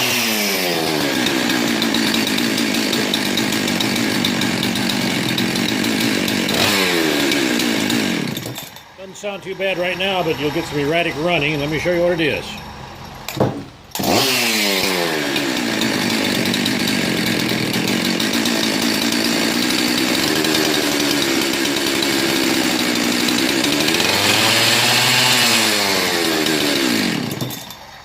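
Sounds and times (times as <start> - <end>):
chainsaw engine running: 0.0 - 28.0.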